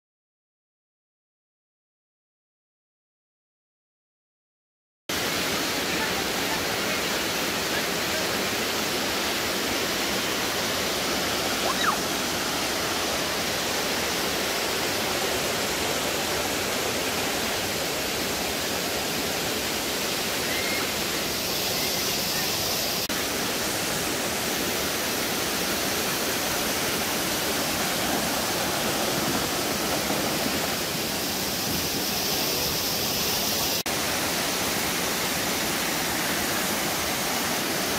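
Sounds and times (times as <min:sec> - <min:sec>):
water rushing down rock: 0:05.6 - 0:37.9.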